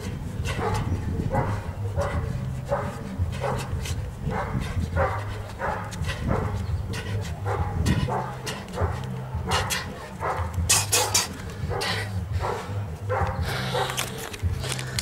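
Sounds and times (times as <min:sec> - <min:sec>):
dog barking: 0:00.5 - 0:06.6, 0:07.4 - 0:14.0.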